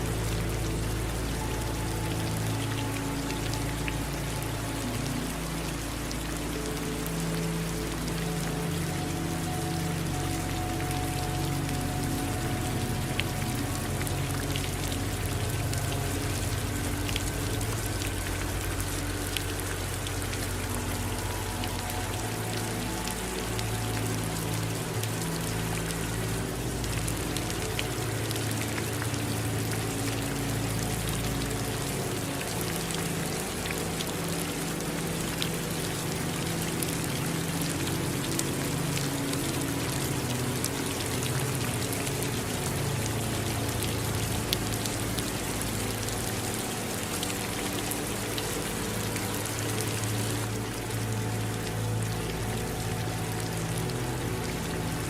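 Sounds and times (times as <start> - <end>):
low steady drone: 0.0 - 55.0
rain drops pattering: 0.0 - 55.0
running water: 0.0 - 55.0.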